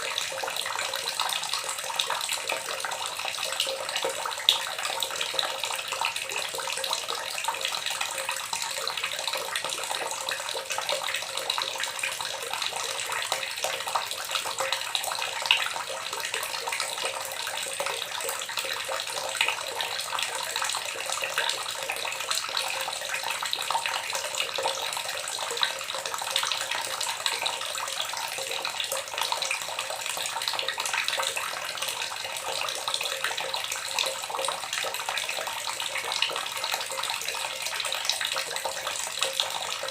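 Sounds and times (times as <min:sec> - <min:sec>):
water gurgling: 0:00.0 - 0:39.9.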